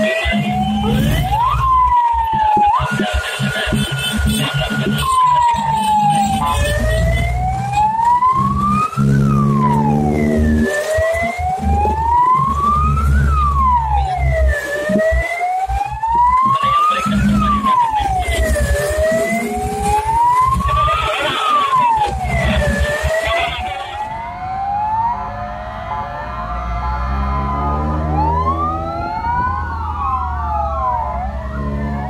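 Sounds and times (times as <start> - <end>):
fire engine siren wailing: 0.0 - 32.0.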